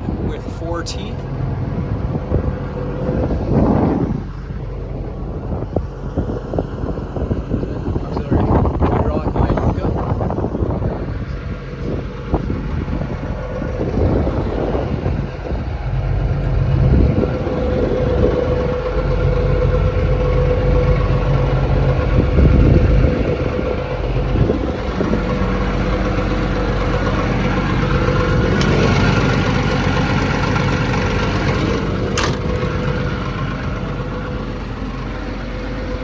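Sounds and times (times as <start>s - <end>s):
excavator diesel engine idling: 0.0s - 36.0s.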